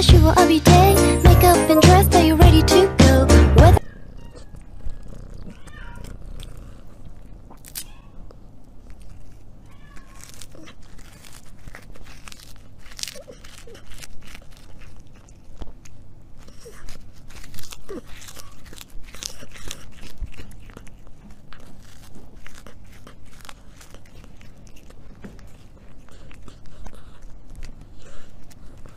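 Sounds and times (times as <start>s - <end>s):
cat crunching a hard snack: 3.8s - 28.9s.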